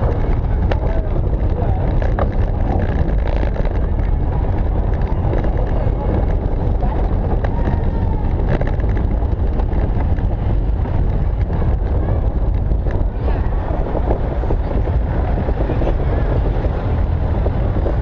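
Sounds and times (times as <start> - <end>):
road noise rumble: 0.0 - 18.0
wind on microphone: 0.0 - 18.0.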